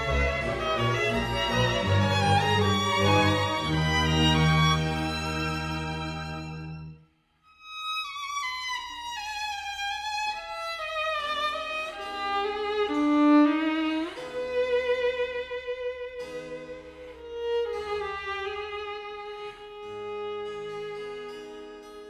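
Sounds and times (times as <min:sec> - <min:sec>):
violin melody: 0:00.0 - 0:22.0.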